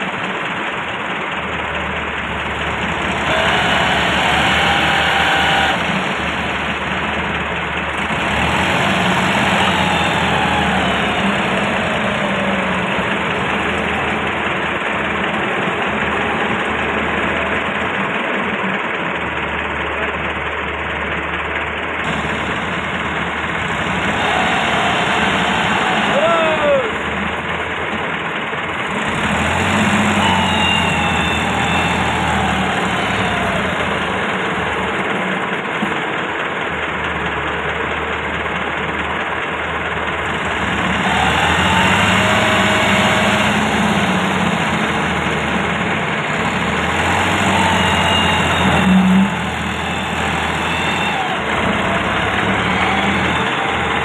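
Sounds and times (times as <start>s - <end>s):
tractor diesel engine straining: 0.0s - 54.0s.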